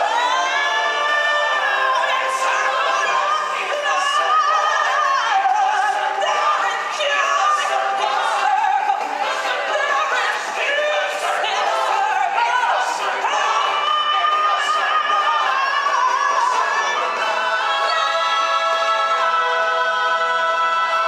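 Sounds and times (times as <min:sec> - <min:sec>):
singers and chorus with music: 0:00.0 - 0:21.0.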